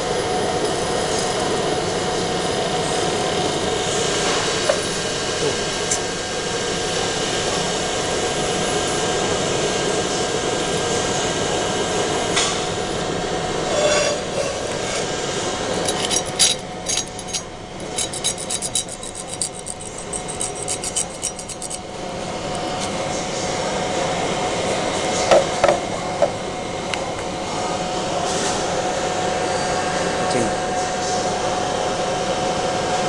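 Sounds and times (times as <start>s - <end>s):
fans and air humming: 0.0s - 33.0s.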